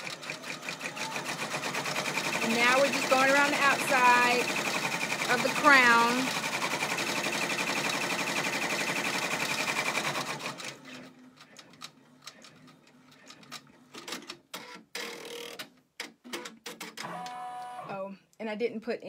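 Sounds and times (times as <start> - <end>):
embroidery machine stitching: 0.0 - 15.6.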